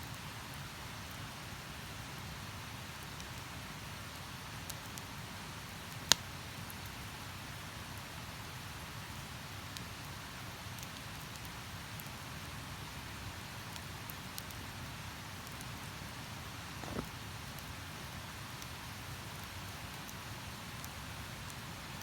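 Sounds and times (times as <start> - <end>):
campfire crackling: 0.9 - 22.0.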